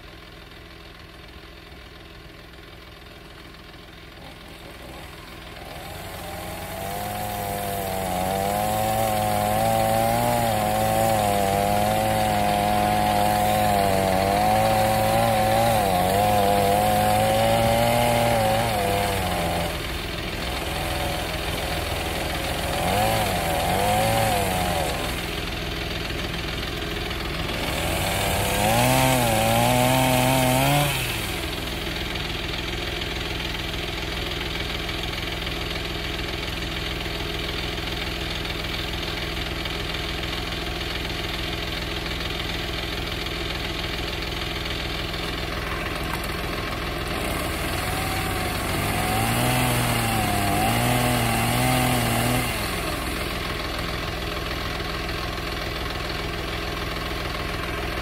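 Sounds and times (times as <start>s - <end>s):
chainsaw engine idling: 0.0s - 58.0s
chainsaw cutting wood: 4.1s - 58.0s.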